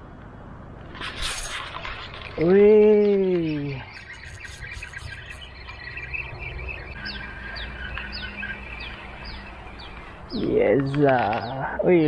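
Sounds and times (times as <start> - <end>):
birds chirping: 1.2 - 12.0.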